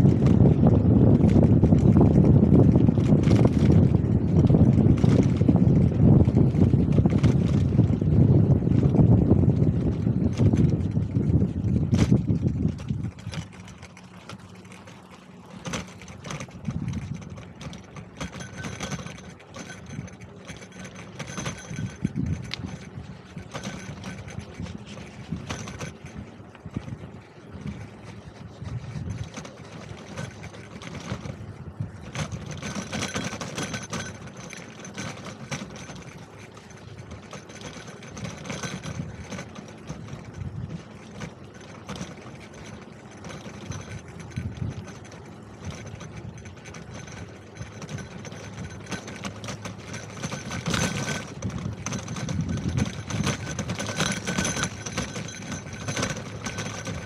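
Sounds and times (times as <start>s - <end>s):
bicycle rattling: 0.0s - 57.0s.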